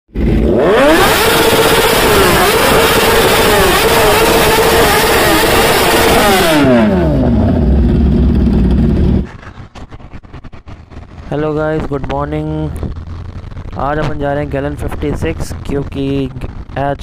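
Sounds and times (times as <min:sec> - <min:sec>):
motorcycle engine revving: 0:00.1 - 0:17.0.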